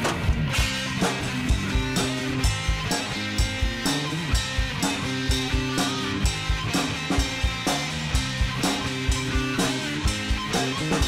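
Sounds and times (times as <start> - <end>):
bass guitar sustained notes: 0.0 - 11.0
drum kit beat: 0.0 - 11.0
electric guitars: 0.0 - 11.0.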